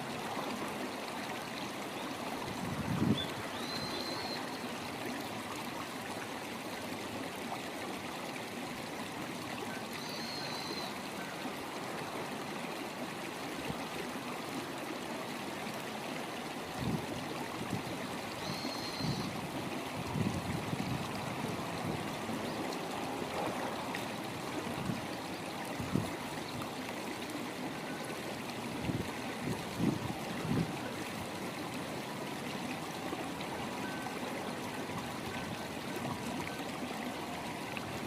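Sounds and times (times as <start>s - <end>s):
river running over stones: 0.0s - 38.0s.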